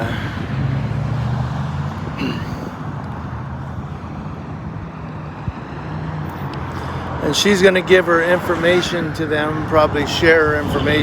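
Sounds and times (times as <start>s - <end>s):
engine humming: 0.0s - 11.0s
street traffic: 0.0s - 11.0s.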